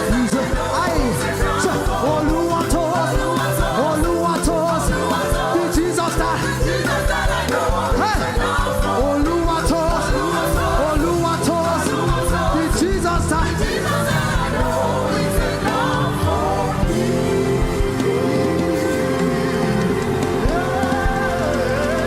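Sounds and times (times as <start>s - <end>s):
band playing gospel music: 0.0s - 22.0s
people singing: 0.0s - 22.0s.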